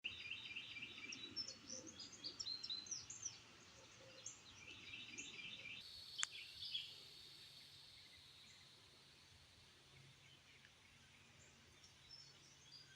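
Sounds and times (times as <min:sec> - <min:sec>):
birds chirping: 0:00.1 - 0:12.9.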